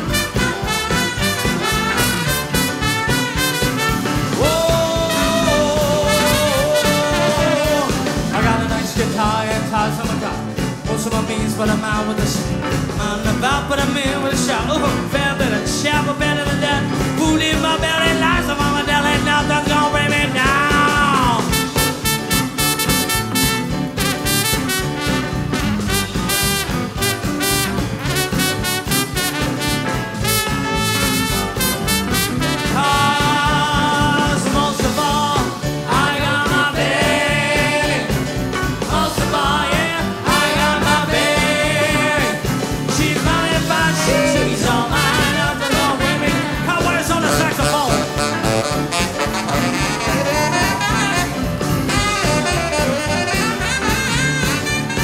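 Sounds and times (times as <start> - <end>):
swing band playing: 0.0 - 55.0.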